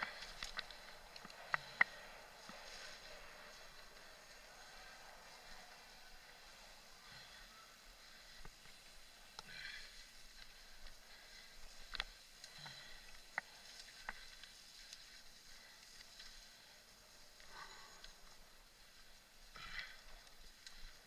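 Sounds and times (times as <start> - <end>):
faint hiss of bike riding: 0.0 - 21.0.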